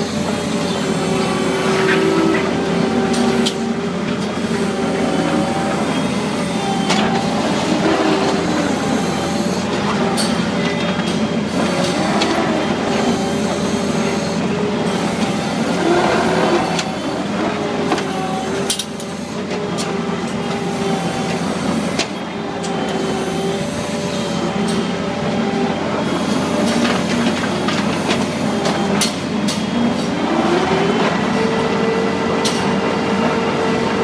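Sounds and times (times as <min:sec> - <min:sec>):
farm vehicle engine running: 0:00.0 - 0:34.0.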